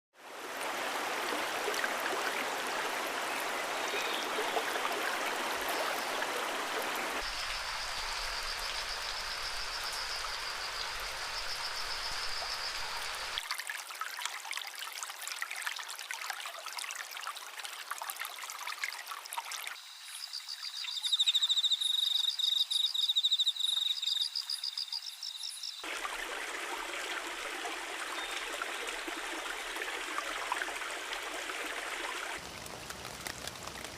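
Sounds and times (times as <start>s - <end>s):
stream running water: 0.2s - 21.5s, 23.7s - 33.9s.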